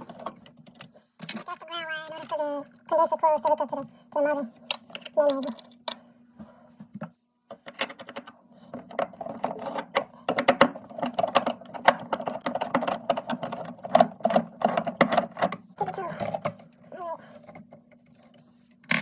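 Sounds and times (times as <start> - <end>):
fan motor clicking and rattling: 0.0 - 6.0, 6.9 - 19.0.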